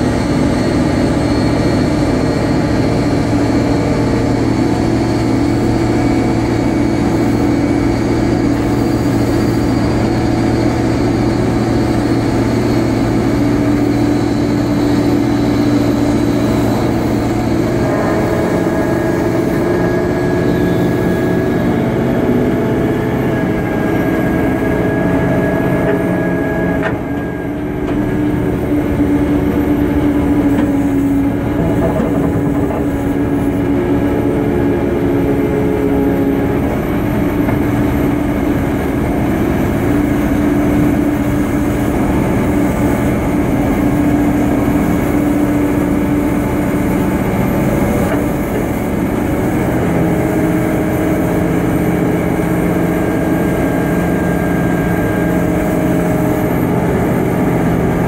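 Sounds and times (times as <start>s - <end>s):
pushback tug and aircraft drone: 0.0s - 58.0s
whining tones: 0.0s - 58.0s.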